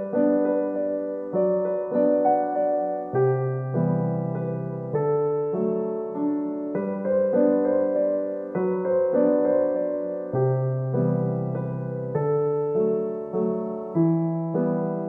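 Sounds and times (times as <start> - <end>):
gentle electric piano chords: 0.0 - 15.0.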